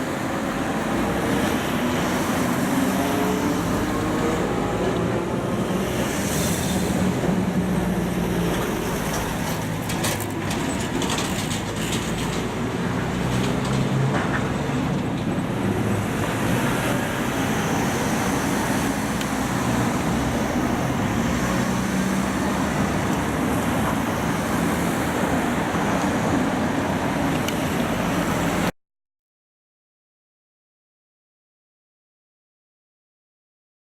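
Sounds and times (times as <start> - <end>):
road traffic passing: 0.0 - 28.7.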